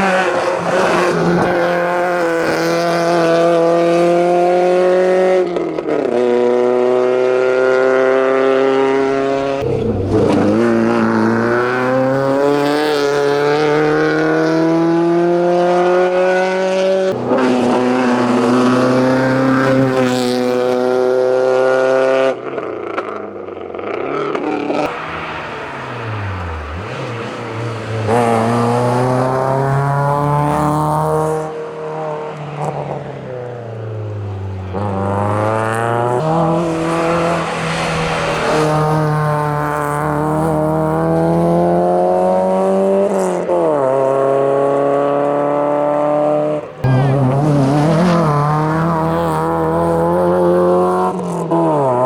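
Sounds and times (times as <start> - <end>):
race car engine revving: 0.0 - 52.0
second race car revving: 0.0 - 52.0.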